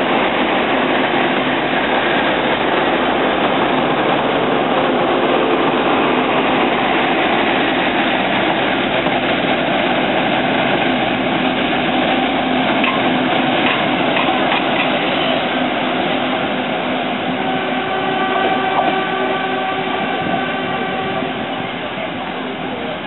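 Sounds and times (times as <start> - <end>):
diesel train engine droning: 0.0 - 23.0
train cars rolling on track: 0.0 - 23.0.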